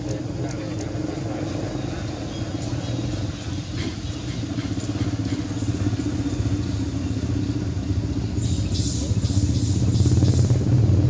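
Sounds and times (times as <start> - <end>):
engine running low rumble: 0.0 - 11.0.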